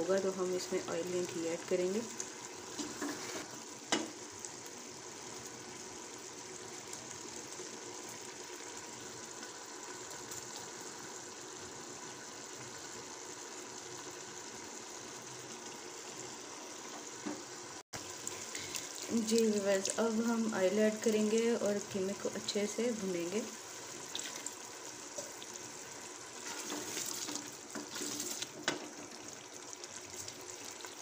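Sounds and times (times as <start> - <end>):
food simmering with steady hiss: 0.0 - 31.0.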